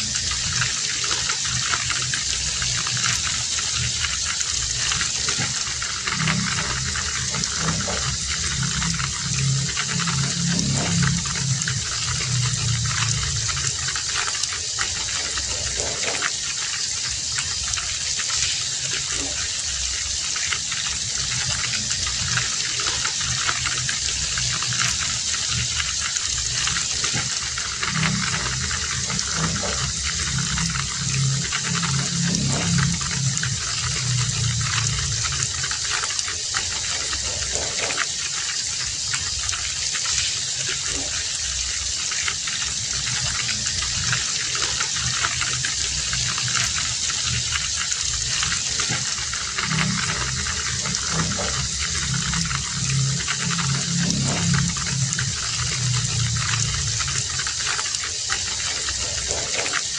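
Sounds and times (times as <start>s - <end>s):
heavy rain falling: 0.0s - 59.9s
low uneven pulsing sound: 0.0s - 59.9s.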